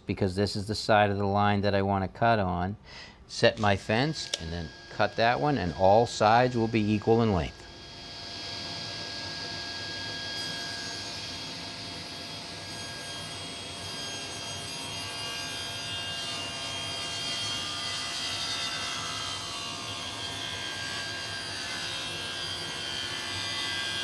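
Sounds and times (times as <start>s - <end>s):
table saw cutting wood: 3.4s - 24.0s.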